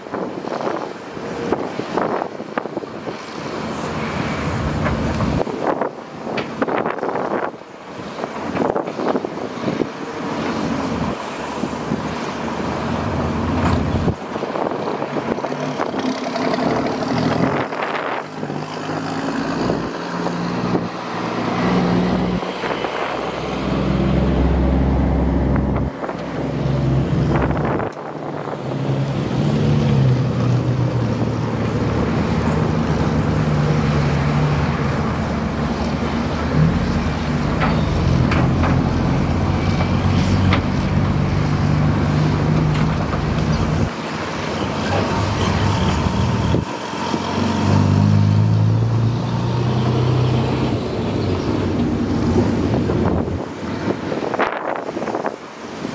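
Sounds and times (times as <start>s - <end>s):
heavy diesel engine under load: 0.0s - 55.9s.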